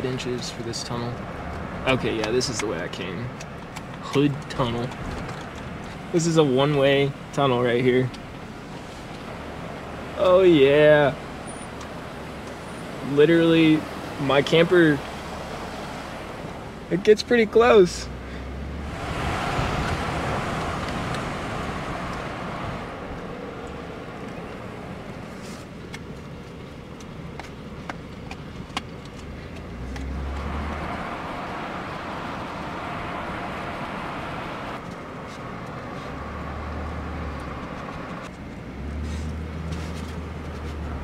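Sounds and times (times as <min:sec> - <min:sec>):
pickup truck driving: 0:00.0 - 0:41.0.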